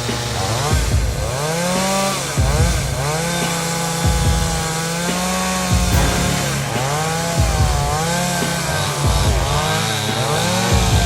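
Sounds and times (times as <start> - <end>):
chainsaw cutting into tree trunk: 0.0 - 11.0.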